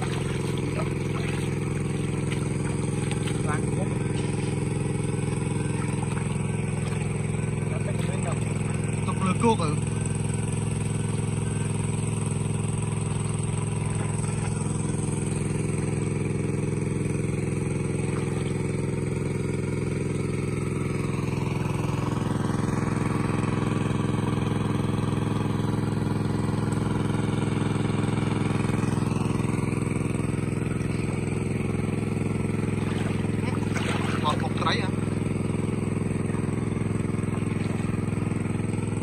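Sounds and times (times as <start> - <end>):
engine-driven water pump running: 0.0 - 39.0.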